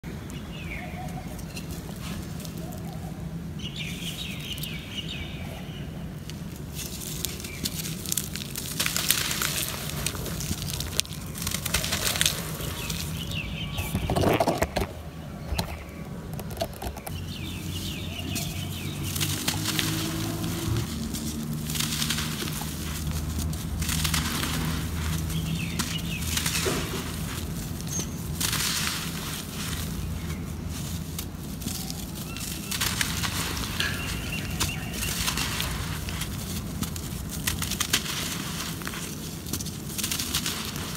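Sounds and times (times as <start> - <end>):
birds chirping: 0.0 - 39.4
dry dirt crumbling in hands: 0.0 - 40.9.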